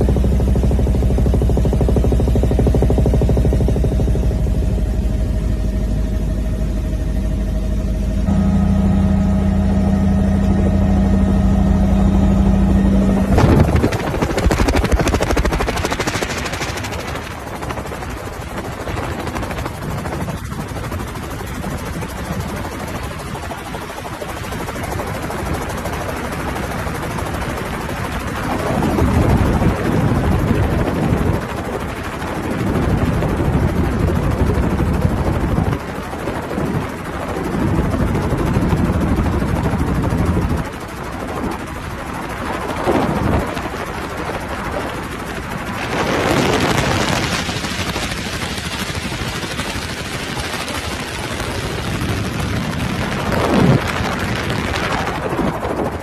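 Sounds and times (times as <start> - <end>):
helicopter rumble: 0.0 - 56.0.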